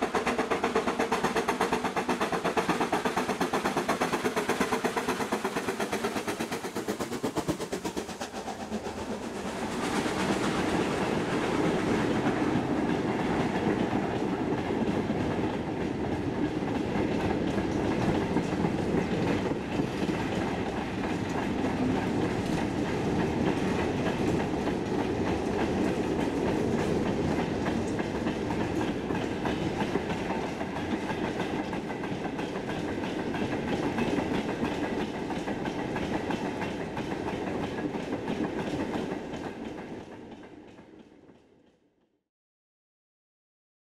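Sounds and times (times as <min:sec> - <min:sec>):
steam locomotive exhaust beat: 0:00.0 - 0:41.4
train wheels clacking over rail joints: 0:00.0 - 0:41.8.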